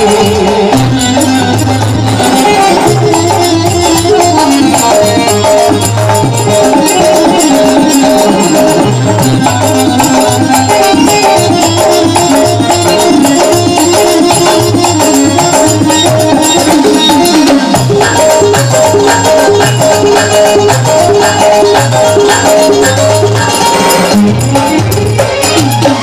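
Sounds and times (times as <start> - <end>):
hand drum beat: 0.0 - 26.0
jingling percussion: 0.0 - 26.0
melody instrument playing: 0.3 - 26.0.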